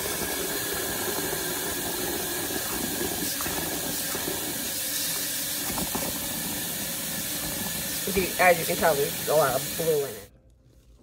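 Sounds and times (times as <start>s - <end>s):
water running into a bowl: 0.0s - 10.3s.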